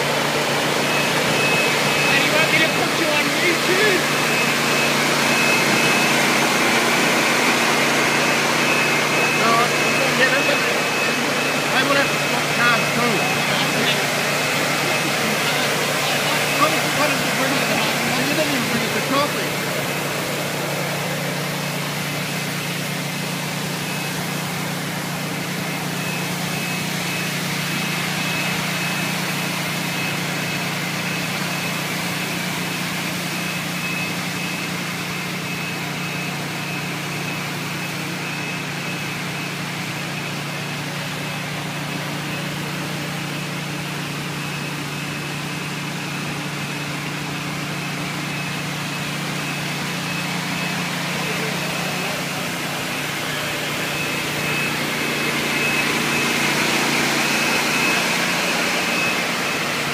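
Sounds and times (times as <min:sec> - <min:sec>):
floor scrubber motor droning: 0:00.0 - 0:59.9.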